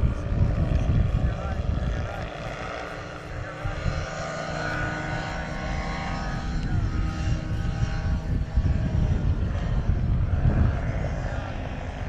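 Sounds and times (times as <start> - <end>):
ultralight airplane droning overhead: 0.0 - 12.0.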